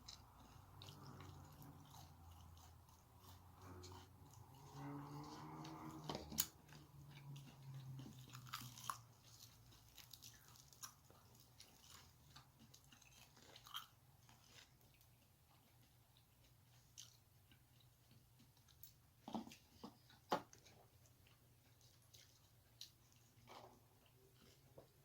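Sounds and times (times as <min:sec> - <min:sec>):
person chewing and crunching food: 0:00.0 - 0:25.0.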